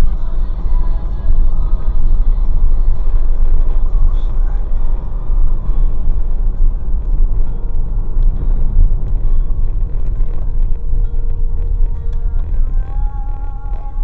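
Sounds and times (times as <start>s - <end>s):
car engine rumble: 0.0s - 14.0s
tyre road noise: 0.0s - 14.0s.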